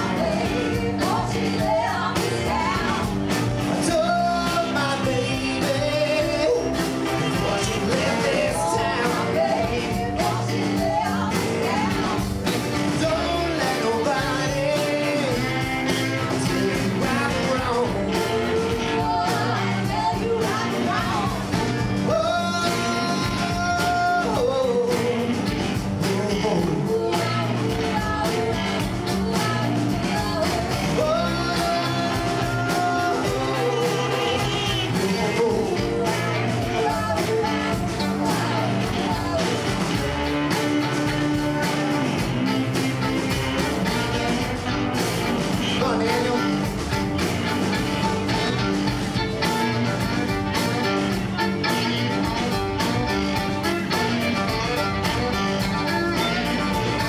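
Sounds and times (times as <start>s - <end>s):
live blues band playing: 0.0s - 57.0s
people singing: 0.0s - 57.0s.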